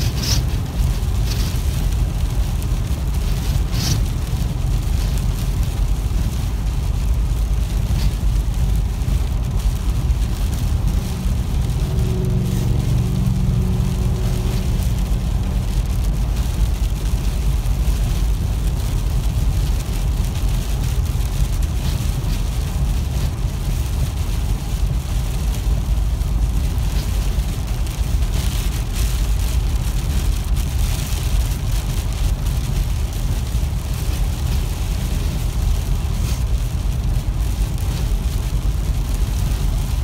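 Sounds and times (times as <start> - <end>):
rain striking car: 0.0 - 40.0
road and tyre rumble: 0.0 - 40.0.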